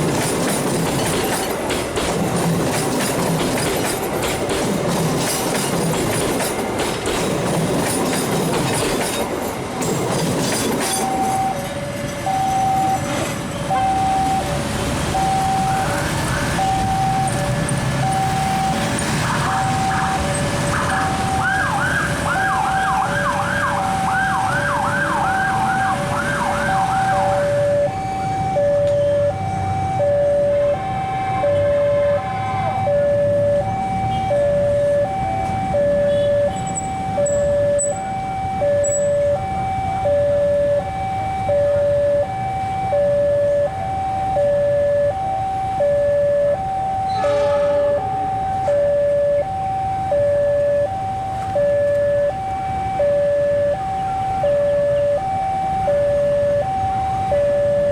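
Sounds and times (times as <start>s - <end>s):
level crossing two-tone alarm: 10.8s - 13.1s, 13.7s - 57.9s.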